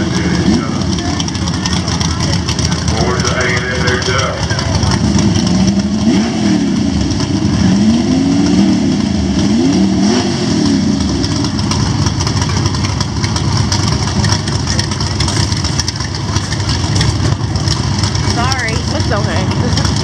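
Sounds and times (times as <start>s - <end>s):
drag racing engines revving: 0.0s - 20.0s.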